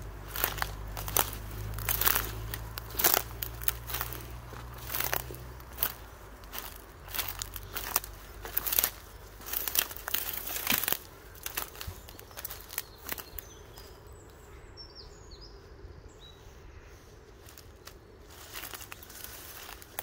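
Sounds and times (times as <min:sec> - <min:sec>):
footsteps on dry leaves: 0:00.0 - 0:14.0, 0:17.1 - 0:20.0
small bird chirping: 0:00.0 - 0:20.0.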